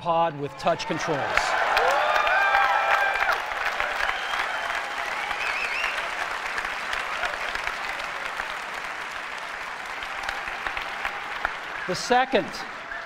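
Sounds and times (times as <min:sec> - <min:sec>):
audience cheering: 0:00.6 - 0:13.0
audience applauding: 0:01.0 - 0:13.0.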